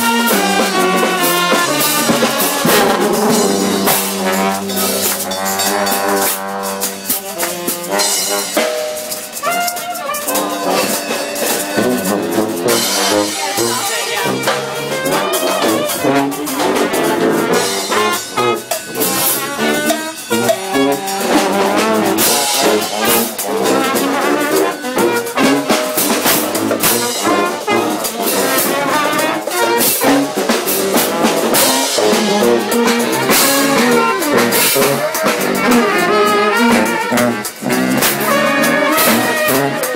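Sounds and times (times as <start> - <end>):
brass band playing: 0.0 - 39.9.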